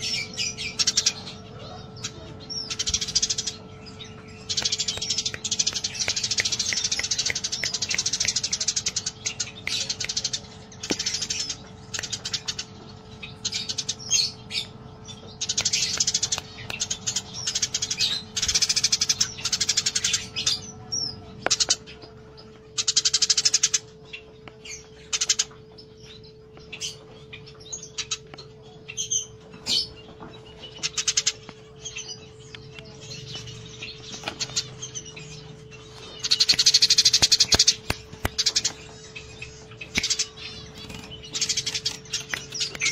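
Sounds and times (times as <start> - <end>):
sparrows chirping: 0.0 - 42.9
steady low hum: 0.0 - 42.9.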